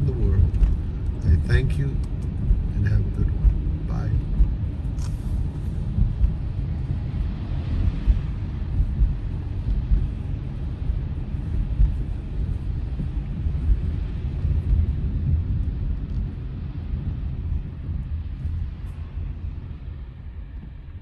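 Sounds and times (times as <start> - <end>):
car road rumble inside cabin: 0.0 - 21.0.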